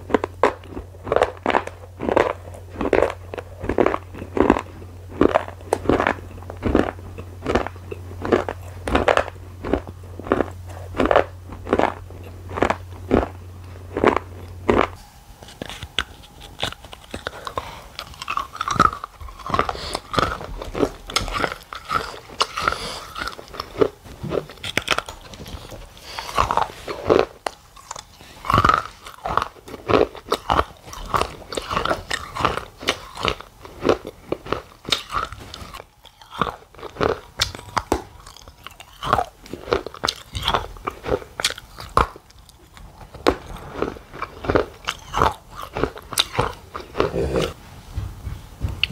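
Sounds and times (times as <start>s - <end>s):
chewing crunchy food: 0.0s - 47.6s.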